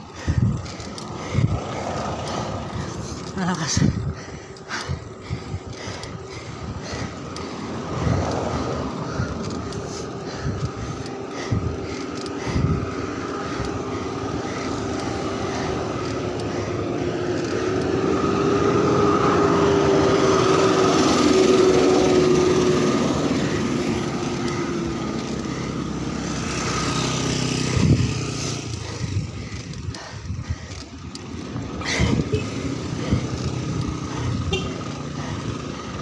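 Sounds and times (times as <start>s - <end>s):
engine drone: 0.0s - 36.0s
wind and bicycle rolling noise: 0.0s - 36.0s.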